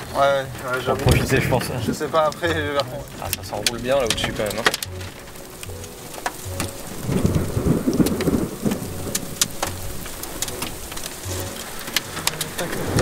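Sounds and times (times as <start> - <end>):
rain ticking on windshield: 0.0 - 13.0
thunder rumbling: 0.0 - 13.0.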